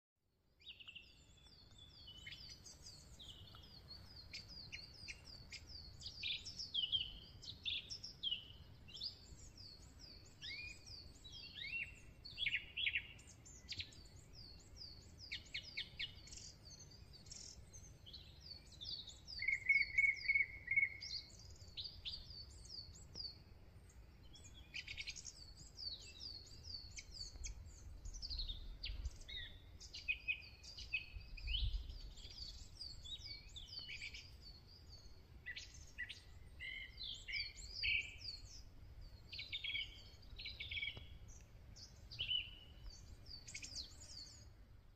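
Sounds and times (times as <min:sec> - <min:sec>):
small birds chirping: 0:00.5 - 0:44.9
bird trill: 0:00.7 - 0:23.1, 0:24.3 - 0:44.5.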